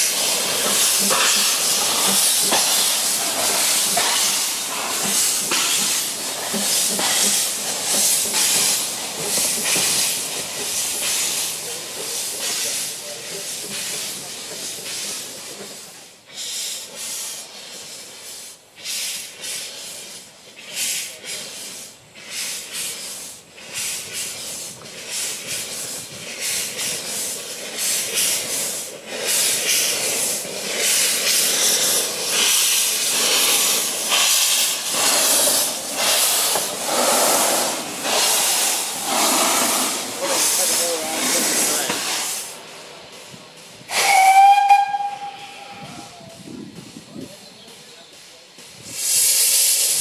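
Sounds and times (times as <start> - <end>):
steam locomotive hissing steam: 0.0 - 50.0.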